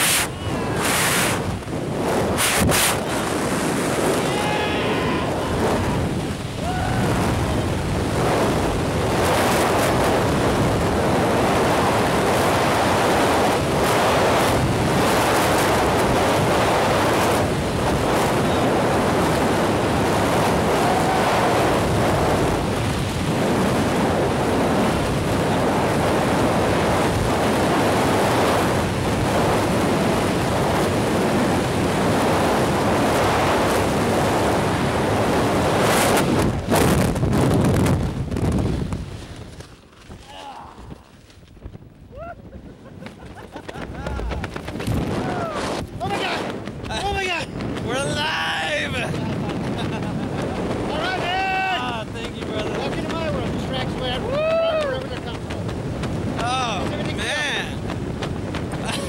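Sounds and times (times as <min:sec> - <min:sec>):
freefall wind rushing: 0:00.0 - 0:39.7, 0:40.5 - 0:59.0.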